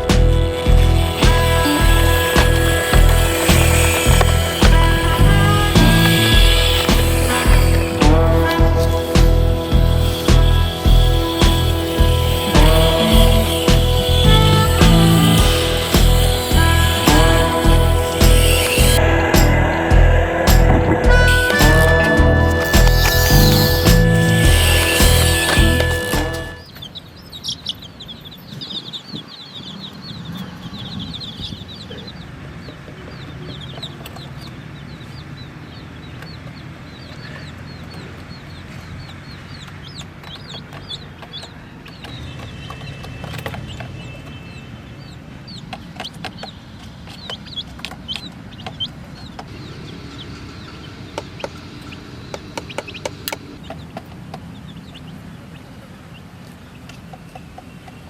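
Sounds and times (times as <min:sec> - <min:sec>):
baby chicks peeping: 0:00.0 - 0:58.0.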